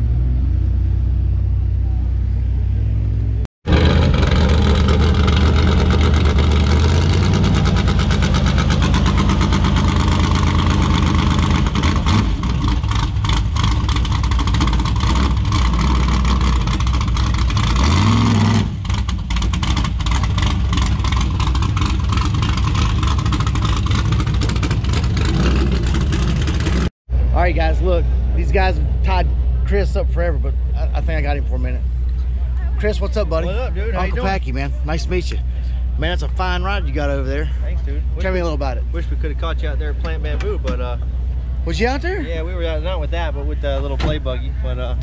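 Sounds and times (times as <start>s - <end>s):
truck engine running and revving: 0.0s - 45.0s.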